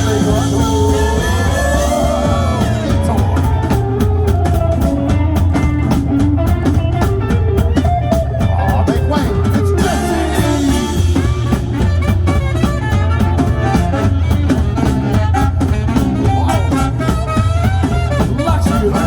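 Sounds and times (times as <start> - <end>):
band playing swing-rock song: 0.0 - 19.0
drum kit beat: 0.0 - 19.0
guitar: 0.0 - 19.0.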